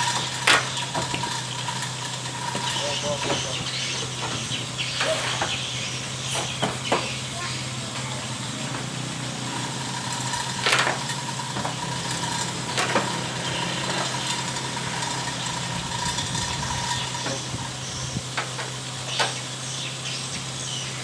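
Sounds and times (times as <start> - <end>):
metal knocks and clanks: 0.0 - 19.4.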